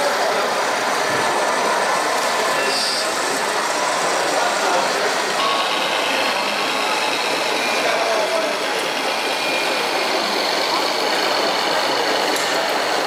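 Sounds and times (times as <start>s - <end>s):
background chatter: 0.0s - 13.0s
simulated truck engine sounds: 0.0s - 13.0s.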